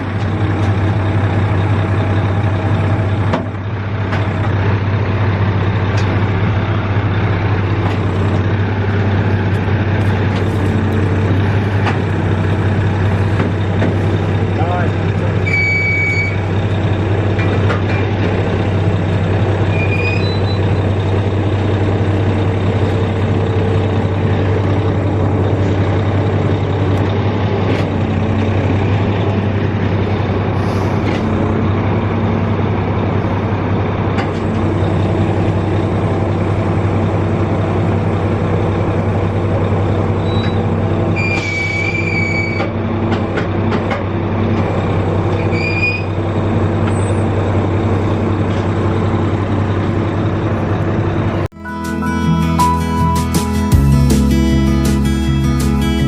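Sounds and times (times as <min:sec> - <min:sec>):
heavy machine engine humming: 0:00.0 - 0:56.0.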